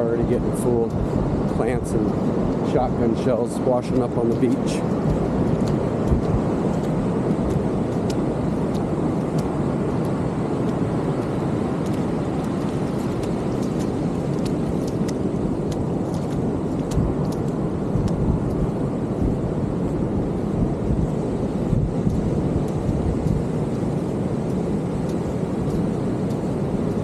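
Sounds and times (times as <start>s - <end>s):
ocean surf breaking: 0.0s - 27.0s
wind: 0.0s - 27.0s.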